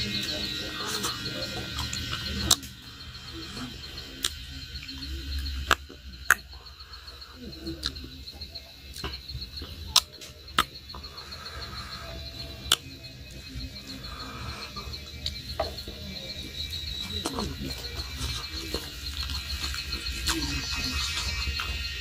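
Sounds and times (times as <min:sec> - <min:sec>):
pulsing animal chirps: 0:00.0 - 0:22.0.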